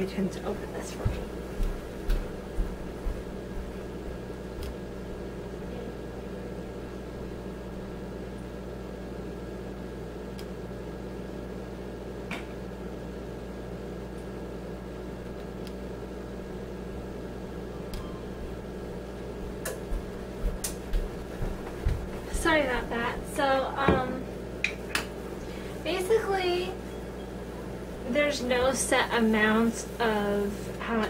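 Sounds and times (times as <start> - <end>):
kitchen appliance humming: 0.0 - 31.0.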